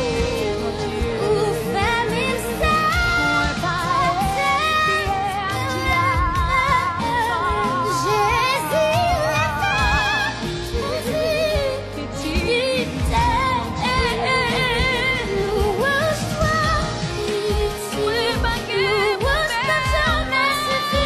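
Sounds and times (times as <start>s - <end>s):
person singing with vibrato: 0.0s - 21.0s.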